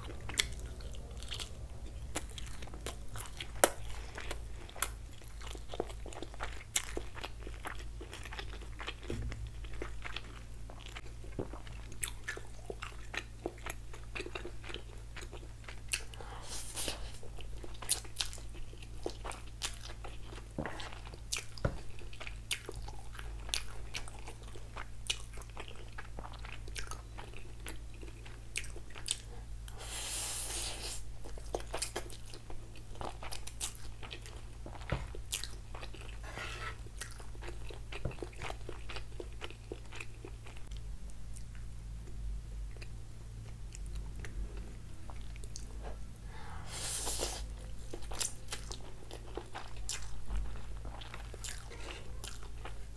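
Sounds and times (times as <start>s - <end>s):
wet chewing with mouth clicks: 0.0s - 52.9s.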